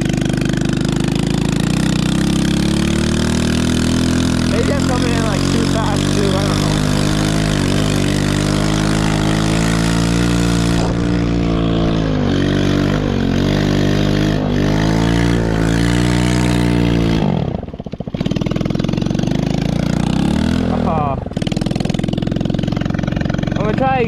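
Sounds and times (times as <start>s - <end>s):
small engine revving and idling: 0.0s - 24.0s.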